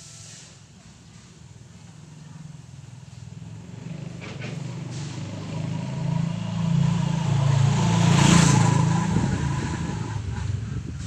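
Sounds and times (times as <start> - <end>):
vehicle engine approaching: 1.8 - 11.0.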